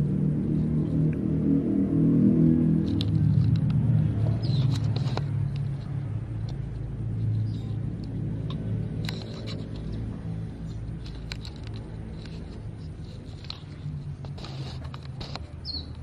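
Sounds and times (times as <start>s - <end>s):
low engine-like hum: 0.0s - 16.0s
faint clicks and rustles: 2.8s - 16.0s.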